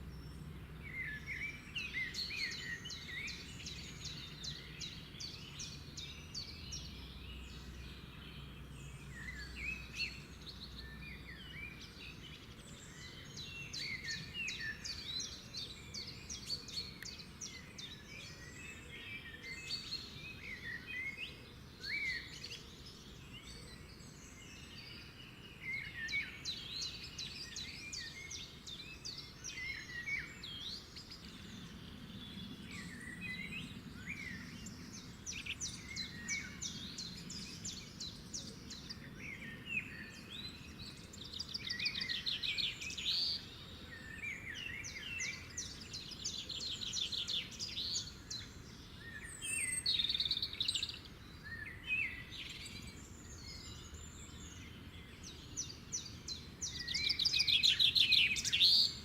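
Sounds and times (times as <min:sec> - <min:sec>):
faint low background noise: 0:00.0 - 0:59.0
songbirds singing: 0:00.0 - 0:59.0.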